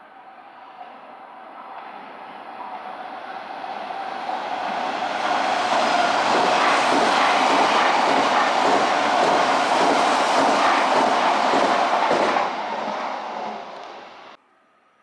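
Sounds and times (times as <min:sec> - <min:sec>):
train passing on rails: 0:00.0 - 0:14.4.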